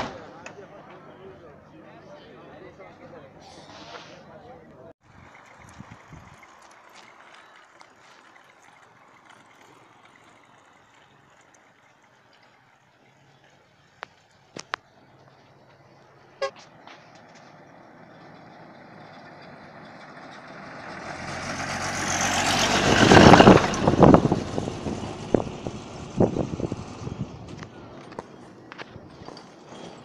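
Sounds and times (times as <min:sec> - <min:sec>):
truck passing by: 0:05.0 - 0:30.0.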